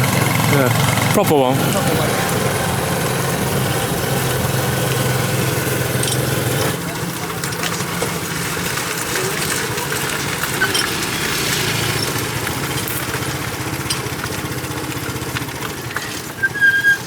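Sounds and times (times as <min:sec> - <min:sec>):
small engine pulsing rumble: 0:00.0 - 0:17.0.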